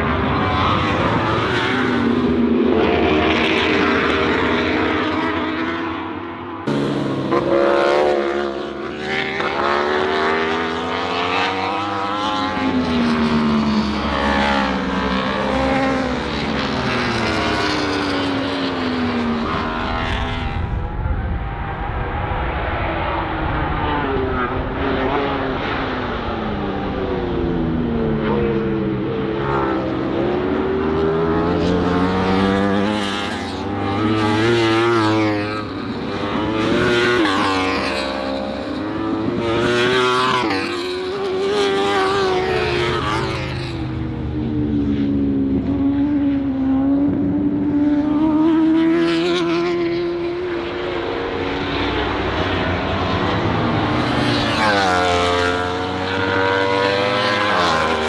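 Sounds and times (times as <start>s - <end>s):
racing motorcycles revving: 0.0s - 20.8s, 23.0s - 58.0s
motorcycles passing close: 0.0s - 21.6s, 22.2s - 58.0s.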